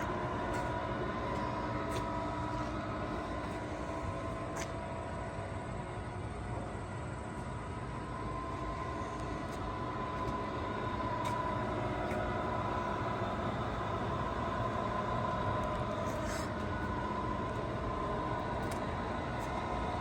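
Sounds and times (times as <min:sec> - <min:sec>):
high whine: 0:00.0 - 0:20.0
mechanical background hum: 0:00.0 - 0:20.0.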